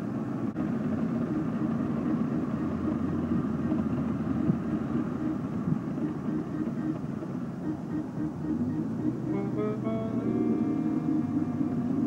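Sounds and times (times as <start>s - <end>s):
car engine and road noise drone: 0.0s - 12.0s.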